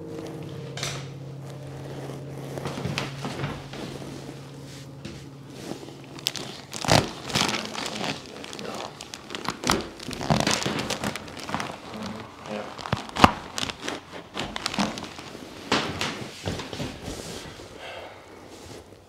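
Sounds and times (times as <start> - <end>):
paper cover and clothing rustling: 0.0 - 19.0.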